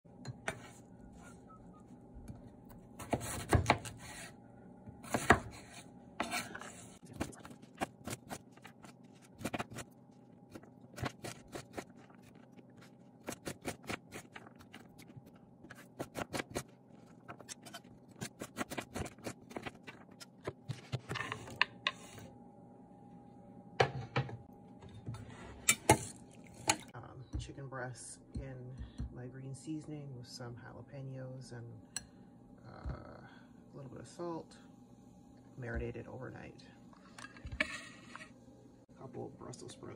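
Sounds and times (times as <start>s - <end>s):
faint steady hum: 0.1s - 39.9s.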